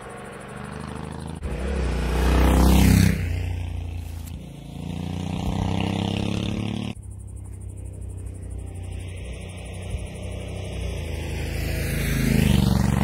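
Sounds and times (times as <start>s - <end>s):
motorcycle engine revving past: 0.0s - 7.0s, 8.1s - 13.0s.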